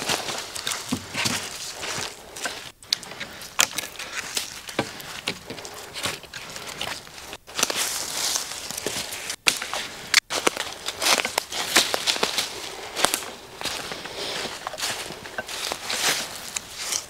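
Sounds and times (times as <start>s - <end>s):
footsteps in dry leaves: 0.0s - 17.0s
wooden sticks knocking and scraping: 0.0s - 17.0s.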